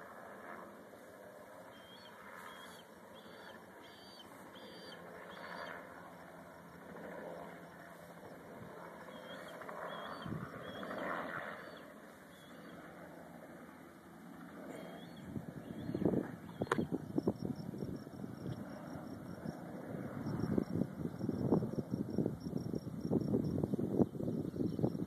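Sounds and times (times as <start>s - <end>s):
distant outdoor noise: 0.0s - 23.0s.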